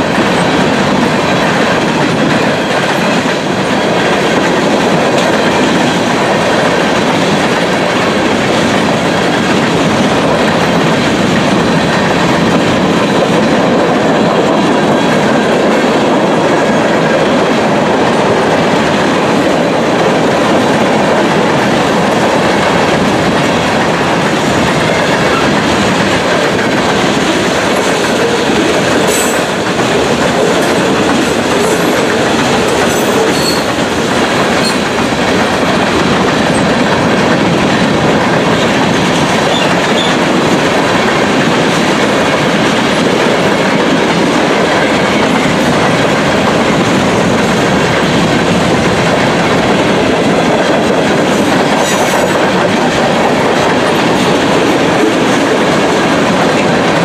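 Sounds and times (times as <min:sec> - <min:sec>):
steel train wheels rumbling: 0:00.0 - 0:57.0.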